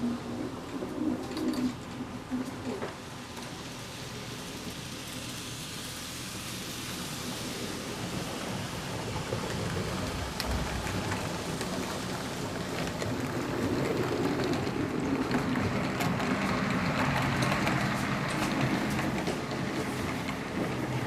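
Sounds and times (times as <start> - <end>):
light clicks of train wheels: 0.0 - 21.0
model train wheels rumbling on rail: 0.0 - 21.0.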